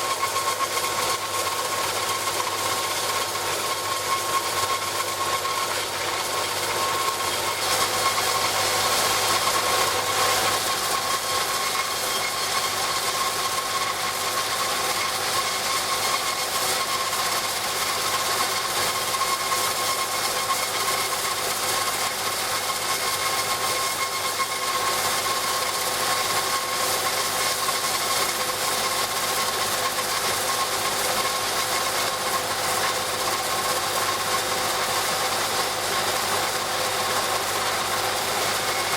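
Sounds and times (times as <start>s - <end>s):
rock saw cutting stone: 0.0s - 38.9s.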